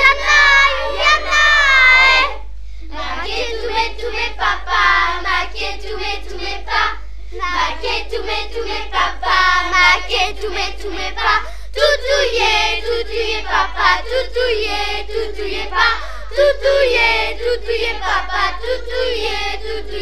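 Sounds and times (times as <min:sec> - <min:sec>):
children singing: 0:00.0 - 0:20.0
low hum: 0:00.0 - 0:20.0.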